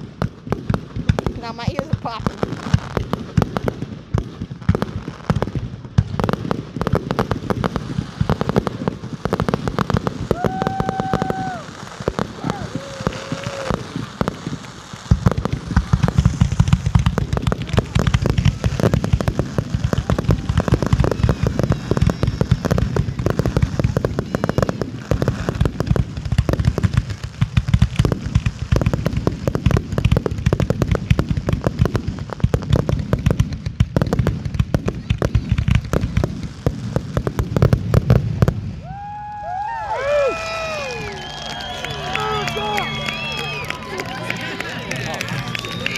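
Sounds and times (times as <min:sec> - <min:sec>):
fireworks bursting and crackling: 0:00.0 - 0:45.9.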